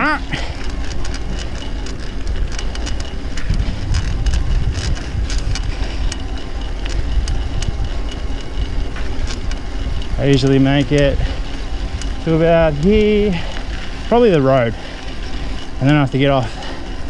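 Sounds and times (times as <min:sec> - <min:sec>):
tyres crackling over gravel: 0:00.0 - 0:17.0
wind rumbling on microphone: 0:00.0 - 0:17.0.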